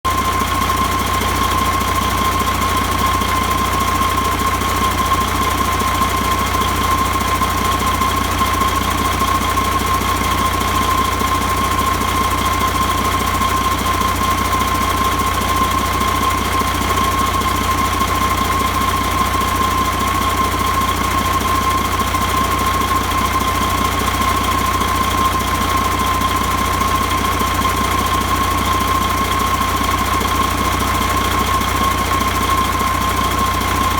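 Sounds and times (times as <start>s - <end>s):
diesel engine rumble: 0.0s - 33.9s.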